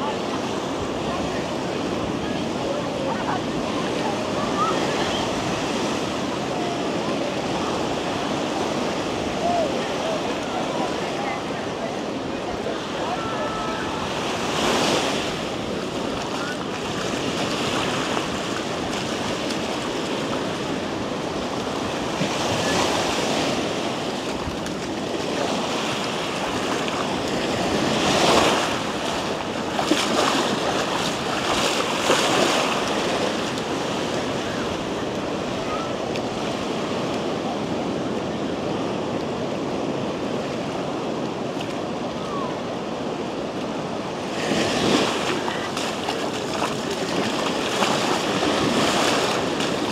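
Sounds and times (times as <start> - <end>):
ocean waves breaking: 0.0 - 49.9.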